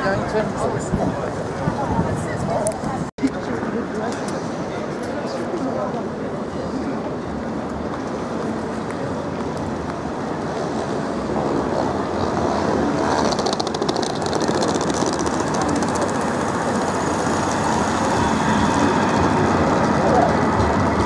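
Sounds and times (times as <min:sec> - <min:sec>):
tram passing by: 0:00.0 - 0:21.0.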